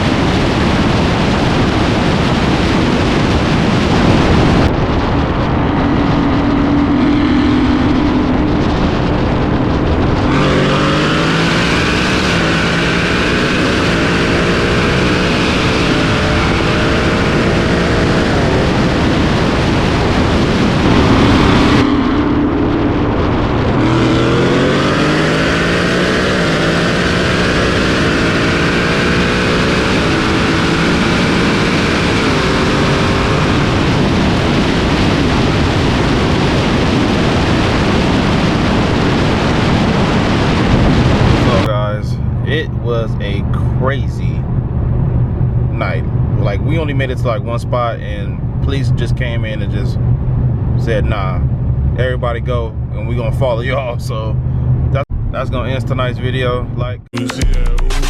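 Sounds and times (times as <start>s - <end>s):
car engines accelerating: 0.0s - 58.0s
engine holding steady note: 0.0s - 58.0s
loud rush of noise: 0.0s - 58.0s.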